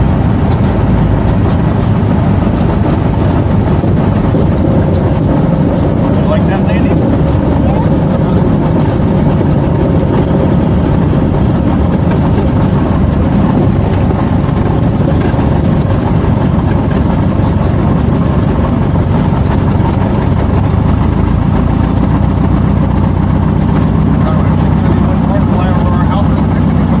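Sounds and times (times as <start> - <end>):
propeller aircraft engine drone: 0.0 - 27.0.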